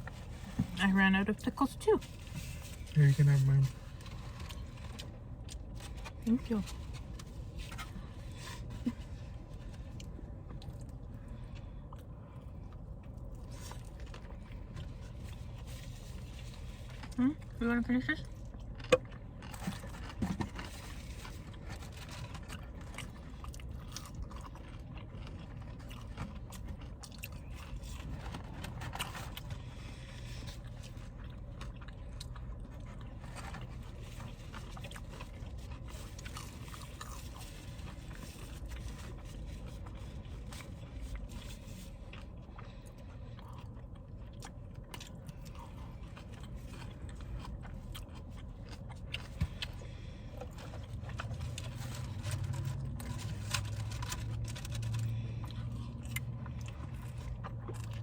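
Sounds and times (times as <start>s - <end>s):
chewing and crunching fried food: 0.0s - 58.0s
low steady rumble: 0.0s - 58.0s.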